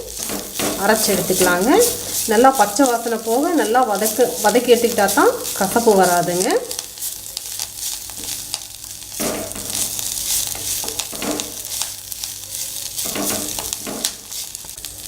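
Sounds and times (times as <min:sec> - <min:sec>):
spatula scraping a pan: 0:00.0 - 0:14.7
leaves sizzling in oil: 0:00.0 - 0:15.0.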